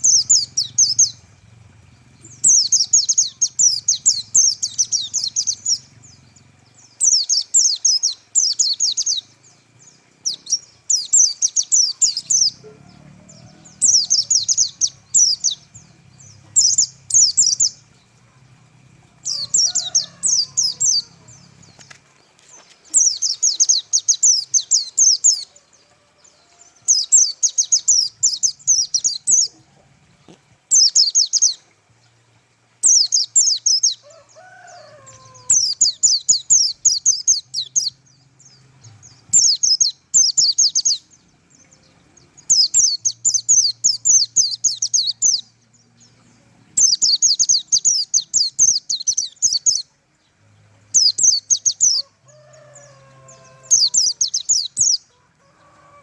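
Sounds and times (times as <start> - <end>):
bird twittering song: 0.0 - 32.2, 32.8 - 56.0.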